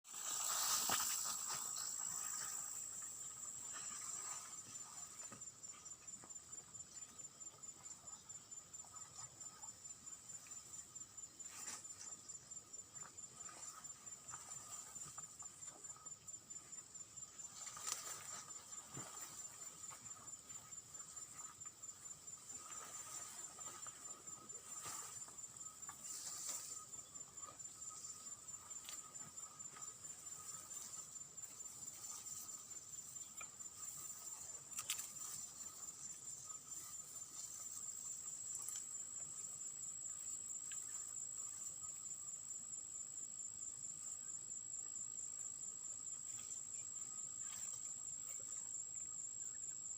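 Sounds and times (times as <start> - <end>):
insects trilling: 0.1 - 49.9.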